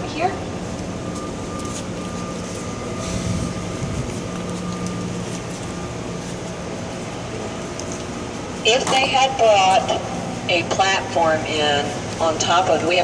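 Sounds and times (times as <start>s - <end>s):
faint high whine: 0.0s - 13.0s
low mechanical drone: 0.0s - 13.0s.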